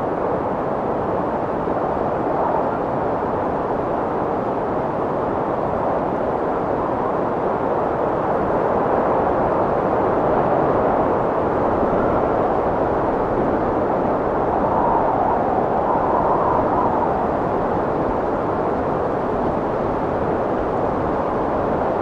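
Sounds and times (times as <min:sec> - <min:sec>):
strong wind blowing: 0:00.0 - 0:22.0.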